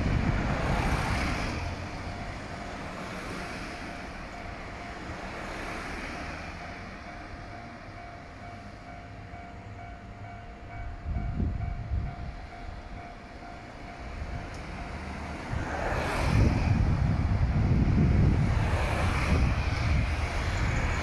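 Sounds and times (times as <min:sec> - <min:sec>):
distant diesel railcar approaching: 0:00.0 - 0:21.0
road traffic rumble: 0:00.0 - 0:21.0
wind: 0:00.0 - 0:21.0.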